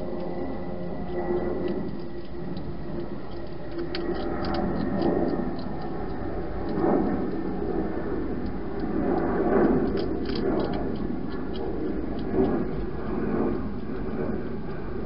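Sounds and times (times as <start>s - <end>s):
hedgehog crunching food: 0.0s - 15.0s
steady low rumble: 0.0s - 15.0s.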